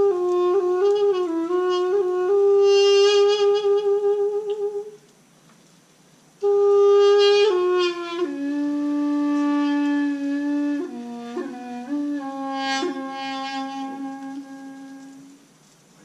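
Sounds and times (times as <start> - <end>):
double-reed wind instrument melody: 0.0 - 5.0, 6.4 - 15.6.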